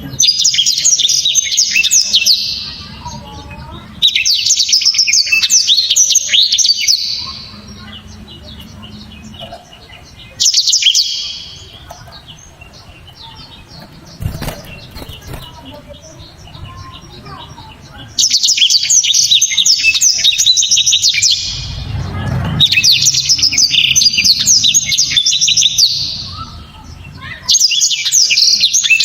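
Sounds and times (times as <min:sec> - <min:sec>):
canary singing trills and chirps: 0:00.0 - 0:29.0.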